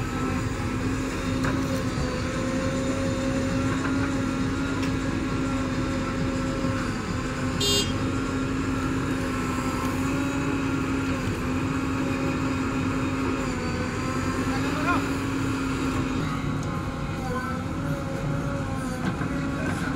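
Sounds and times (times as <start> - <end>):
diesel engine under load: 0.0 - 19.9.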